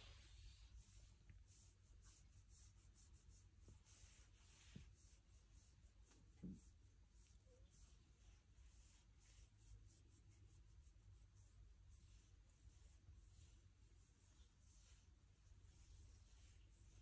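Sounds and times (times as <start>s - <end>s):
hand rubbing cat fur: 0.0s - 17.0s.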